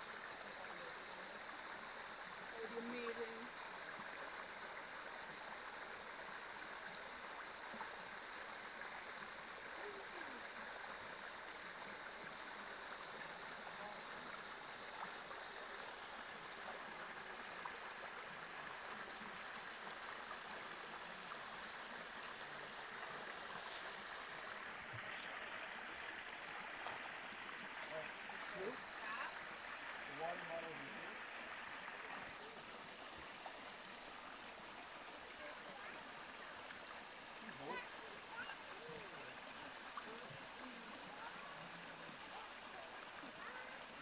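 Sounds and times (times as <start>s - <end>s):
creek trickling over stones: 0.0s - 44.0s.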